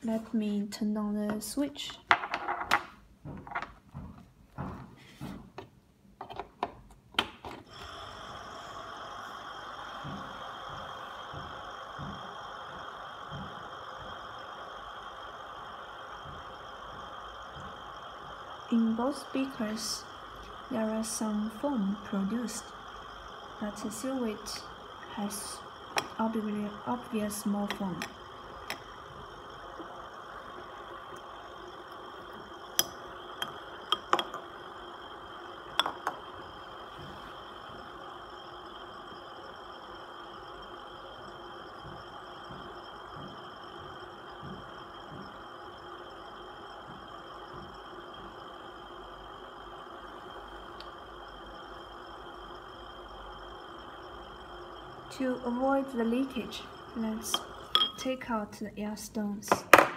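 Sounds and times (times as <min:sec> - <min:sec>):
air pump humming: 0:07.6 - 0:59.9.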